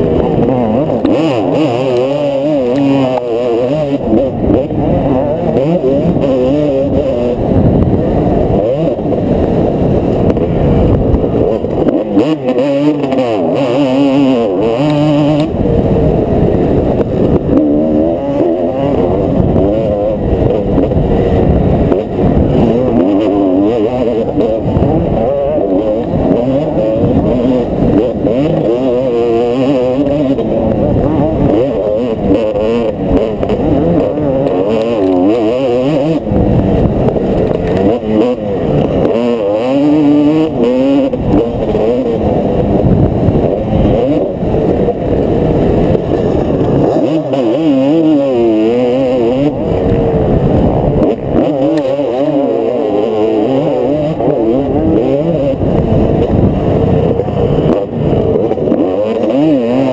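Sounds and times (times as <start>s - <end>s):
dirt bike engine revving: 0.0s - 59.9s
wind rumble on microphone: 0.0s - 59.9s.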